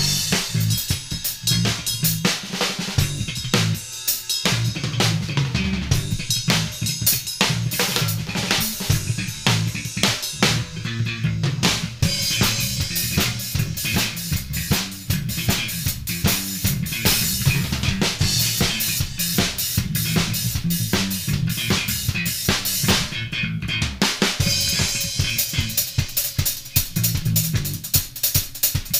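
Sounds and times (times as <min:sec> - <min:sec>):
drum kit funk groove: 0:00.0 - 0:28.9
electric bass line: 0:00.0 - 0:28.9.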